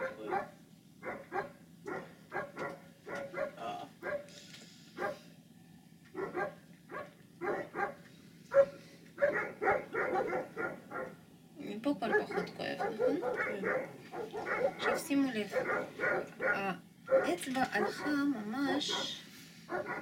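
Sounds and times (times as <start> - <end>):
dog barking: 0.0 - 4.3, 5.0 - 5.3, 6.1 - 11.2, 12.0 - 20.0.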